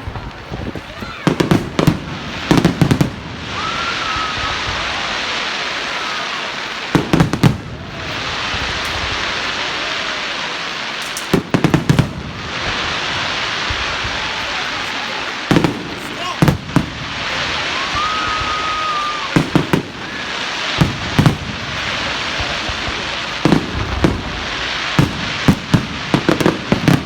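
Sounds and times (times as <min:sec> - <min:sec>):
fireworks banging: 0:00.0 - 0:27.0
fireworks crackling hiss: 0:00.0 - 0:27.0.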